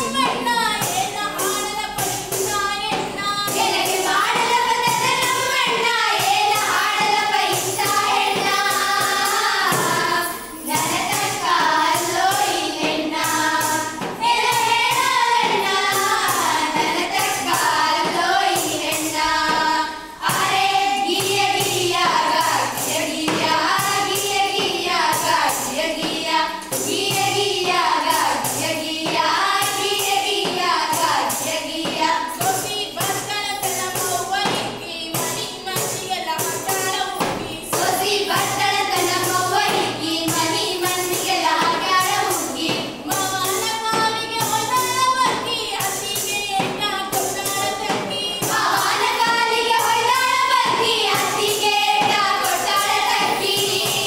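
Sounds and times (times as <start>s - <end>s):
women singing folk song: 0.0s - 54.0s.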